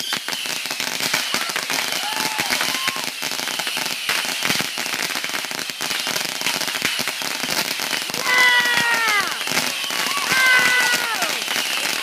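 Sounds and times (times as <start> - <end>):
firecrackers banging and crackling: 0.0 - 12.0.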